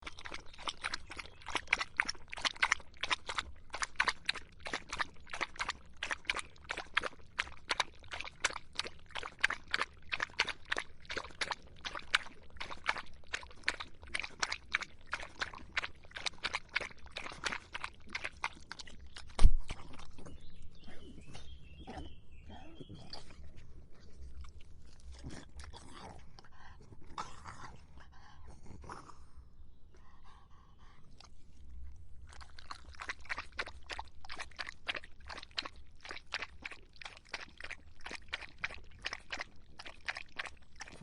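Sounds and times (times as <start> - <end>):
dog lapping water: 0.0 - 28.8, 30.8 - 41.0.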